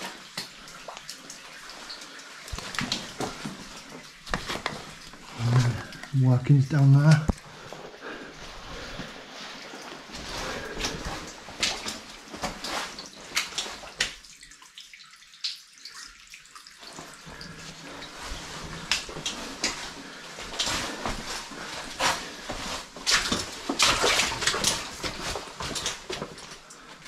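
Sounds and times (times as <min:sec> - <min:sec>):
footsteps splashing through water: 0:00.0 - 0:06.0, 0:08.4 - 0:15.6, 0:16.8 - 0:27.0.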